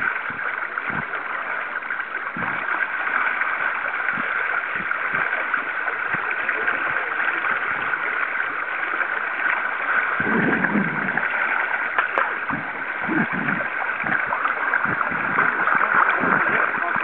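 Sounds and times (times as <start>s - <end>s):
low muffled sounds: 0.0s - 17.0s
river current rushing: 0.0s - 17.0s.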